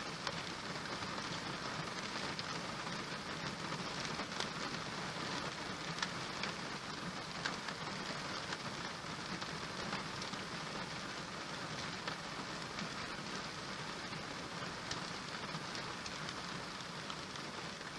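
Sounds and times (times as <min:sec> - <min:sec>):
close raindrops ticking: 0:00.0 - 0:17.9
steady rain falling: 0:00.0 - 0:17.9.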